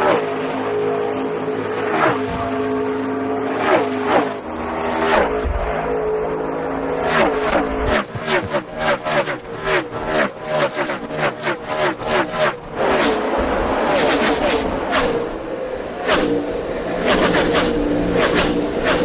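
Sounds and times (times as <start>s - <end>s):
race cars passing by: 0.0s - 19.0s
steady racing engine note: 0.0s - 19.0s.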